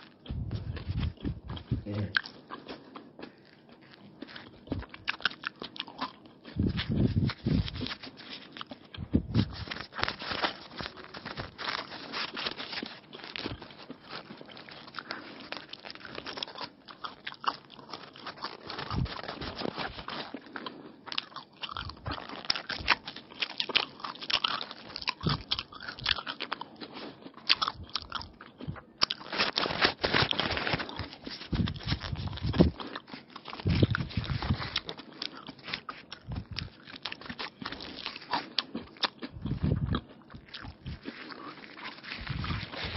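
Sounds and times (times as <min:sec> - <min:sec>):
person crunching food: 0:00.0 - 0:42.9.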